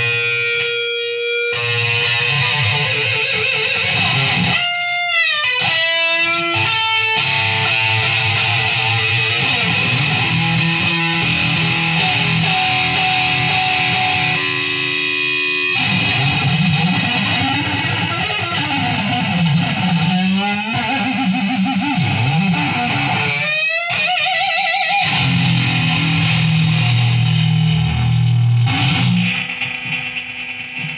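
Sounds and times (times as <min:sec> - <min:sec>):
electric guitar lead lines: 0:00.0 - 0:30.9.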